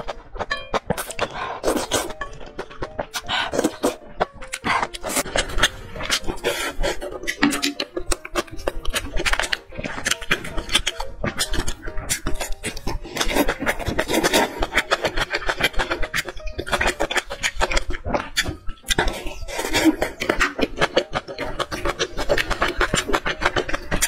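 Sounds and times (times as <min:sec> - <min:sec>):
close chewing and crunching: 0:00.0 - 0:24.0.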